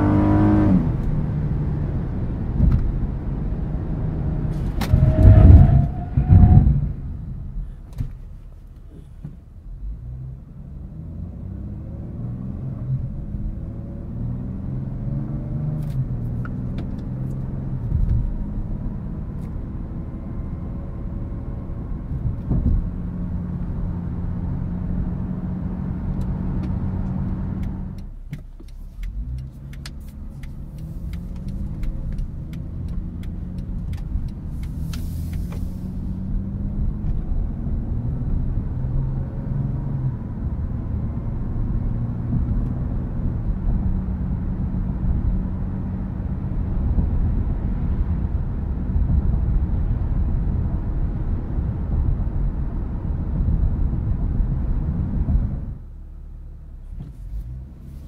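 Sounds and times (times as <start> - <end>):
car engine accelerating: 0.0 - 7.9, 8.8 - 58.0
road noise: 0.0 - 58.0.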